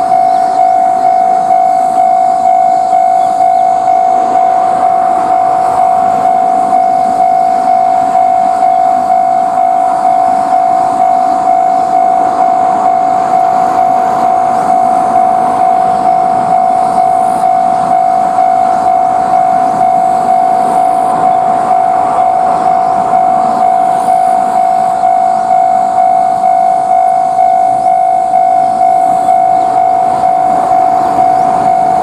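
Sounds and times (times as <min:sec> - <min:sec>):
level crossing warning bell: 0:00.0 - 0:32.0
train passing: 0:00.0 - 0:32.0.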